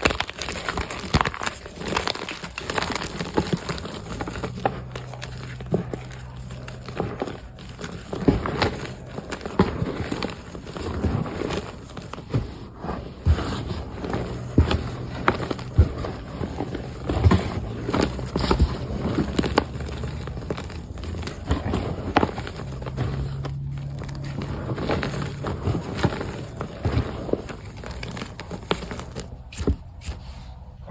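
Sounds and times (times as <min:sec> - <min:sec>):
hands crunching chalk powder: 0:00.0 - 0:30.5.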